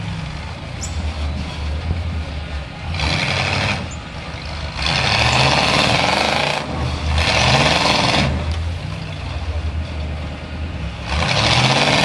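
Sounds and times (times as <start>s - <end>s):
wheels spinning in dirt: 0.0s - 10.2s
off-road vehicle engine revving: 0.0s - 12.0s.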